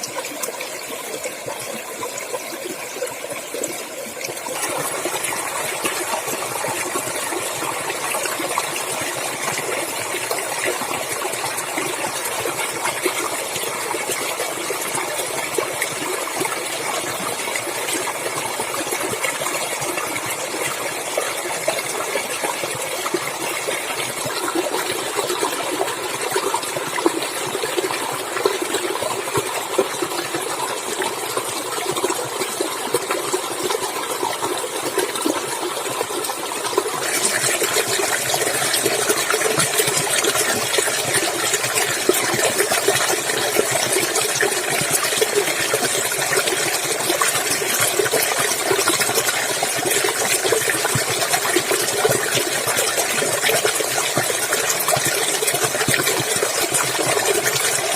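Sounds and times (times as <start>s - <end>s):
stream water rushing: 0.0s - 57.9s.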